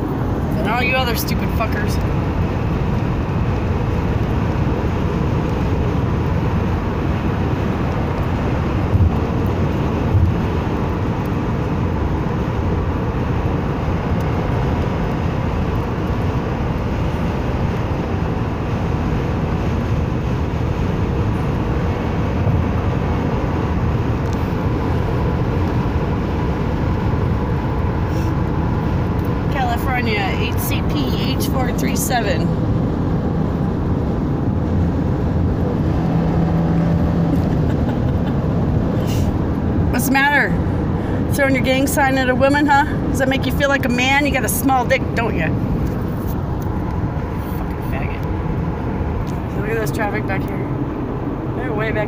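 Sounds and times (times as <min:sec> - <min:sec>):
car road and engine noise: 0:00.0 - 0:52.0.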